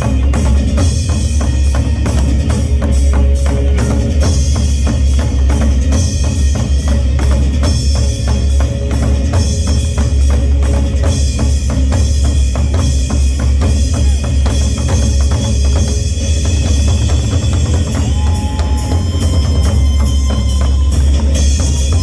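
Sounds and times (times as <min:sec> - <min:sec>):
folk drums in fast rhythm: 0:00.0 - 0:22.0.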